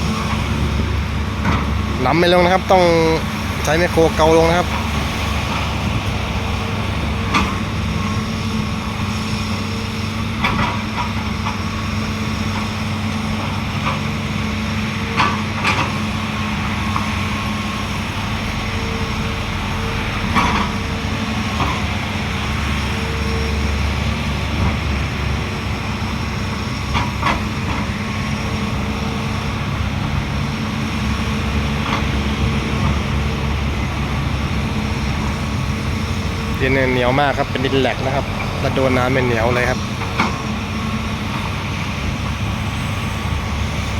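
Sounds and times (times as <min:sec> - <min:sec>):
heavy diesel engines running: 0:00.0 - 0:43.9.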